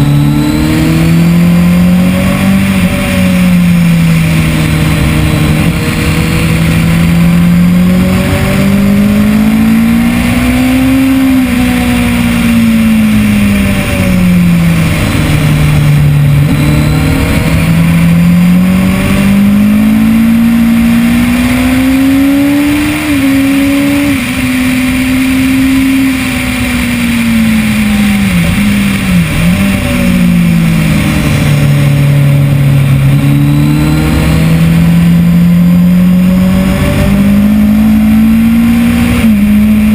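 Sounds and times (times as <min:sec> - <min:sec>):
wind rush on microphone: 0:00.0 - 0:35.3
engine blips on downshifts: 0:00.0 - 0:39.9
motorcycle engine accelerating: 0:00.0 - 0:39.9.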